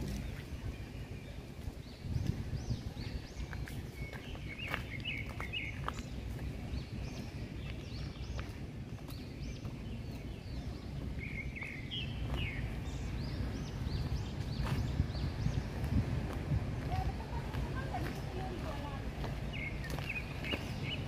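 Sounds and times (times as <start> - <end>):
footsteps on stone path: 0.0 - 21.0
small birds chirping: 0.0 - 21.0.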